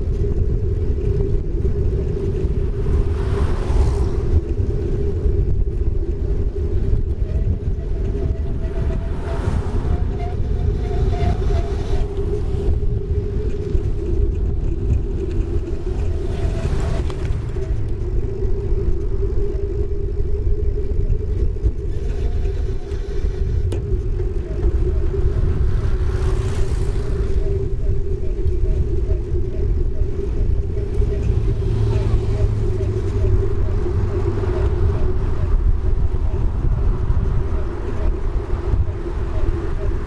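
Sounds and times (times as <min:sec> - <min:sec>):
bicycle tyre humming on asphalt: 0:00.0 - 0:40.0
wind buffeting microphone: 0:00.0 - 0:40.0.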